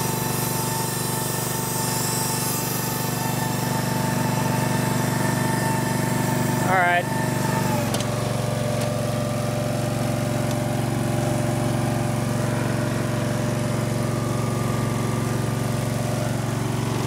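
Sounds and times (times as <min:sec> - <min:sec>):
mower engine running: 0:00.0 - 0:17.0.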